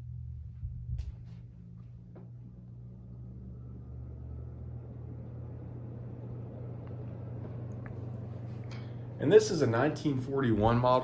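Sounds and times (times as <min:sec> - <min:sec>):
ceiling fan motor hum: 0:00.0 - 0:11.0.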